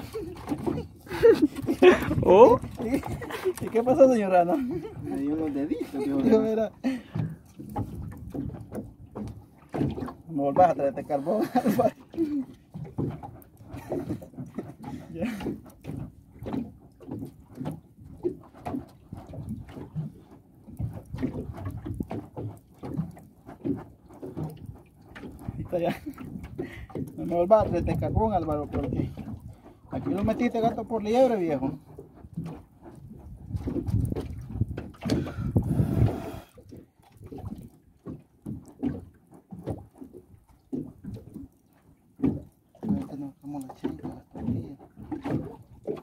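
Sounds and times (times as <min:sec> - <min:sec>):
boat knocks: 0:00.0 - 0:46.0
water slapping against boat hull: 0:00.0 - 0:46.0.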